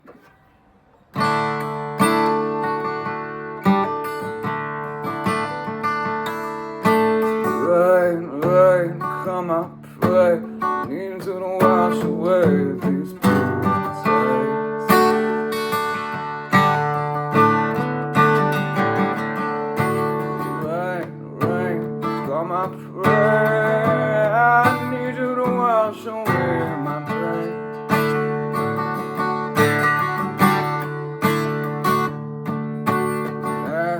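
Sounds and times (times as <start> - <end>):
acoustic guitar chords: 0.0 - 33.9.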